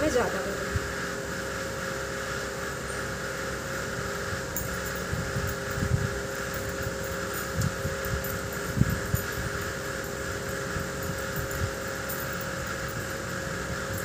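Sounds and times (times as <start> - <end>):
household appliance humming: 0.0 - 14.0.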